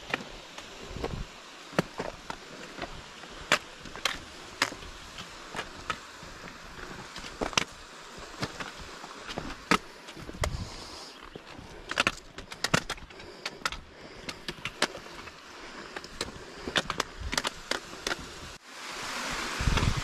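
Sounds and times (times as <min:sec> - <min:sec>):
stream water rushing: 0:00.0 - 0:11.1, 0:13.2 - 0:20.0
boots scraping on rock: 0:00.0 - 0:18.4.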